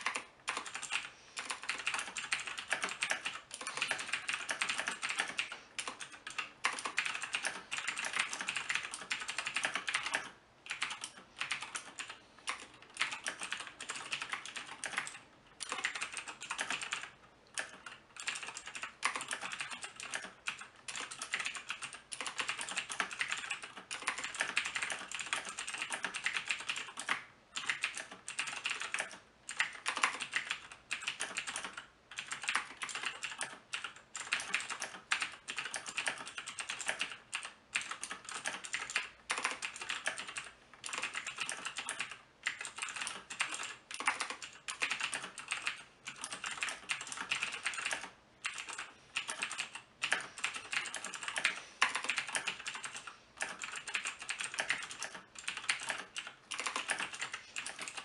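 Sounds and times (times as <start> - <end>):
fast typing on mechanical keyboard: 0.0 - 58.0.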